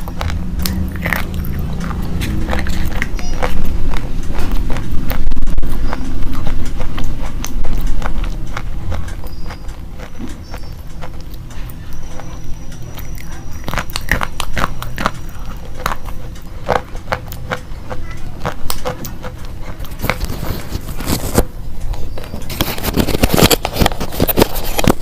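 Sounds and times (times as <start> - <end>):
pencils being chewed crunching: 0.0 - 25.0
steady low hum: 0.0 - 25.0.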